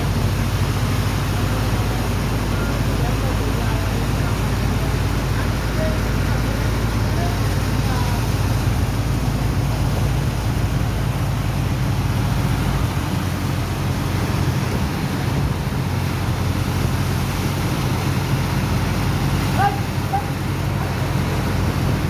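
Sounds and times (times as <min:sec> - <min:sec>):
dredger engine and pump droning: 0:00.0 - 0:22.0.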